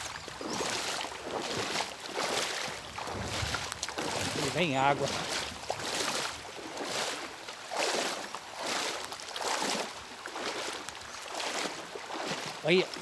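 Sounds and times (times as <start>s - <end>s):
boots sloshing through water: 0.0s - 13.0s.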